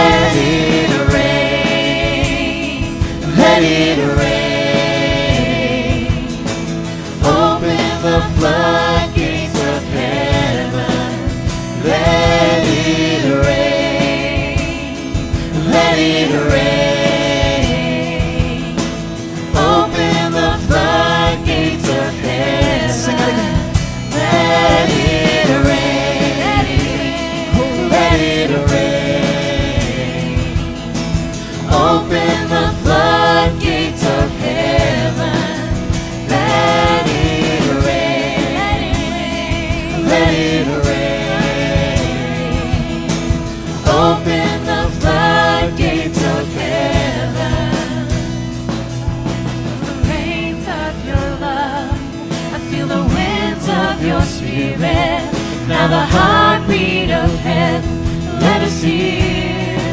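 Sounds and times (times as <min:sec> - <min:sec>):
people singing: 0:00.0 - 0:59.9
steady drum beat: 0:00.0 - 0:59.9
worship band playing: 0:00.0 - 0:59.9.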